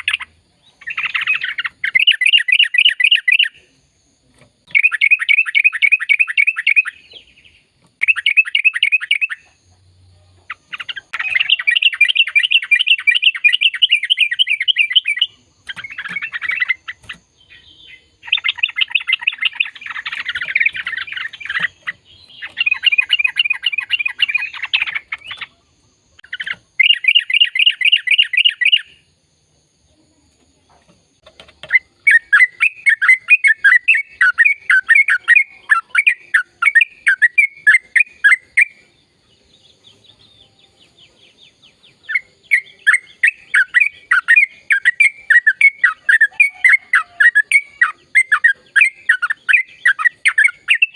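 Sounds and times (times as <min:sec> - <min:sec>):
bulbul singing chattering phrases: 0:00.0 - 0:50.9.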